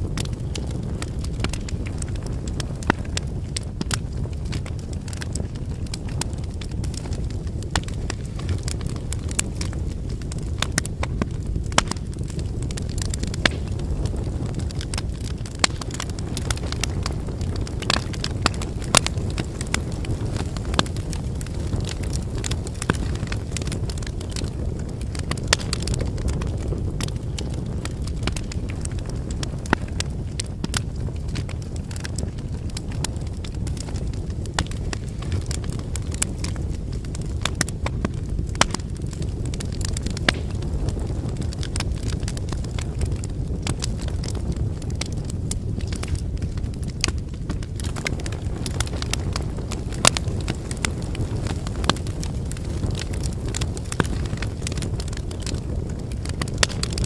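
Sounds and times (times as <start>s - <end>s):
firewood crackling and popping: 0.0s - 57.0s
low rush of flames: 0.0s - 57.0s.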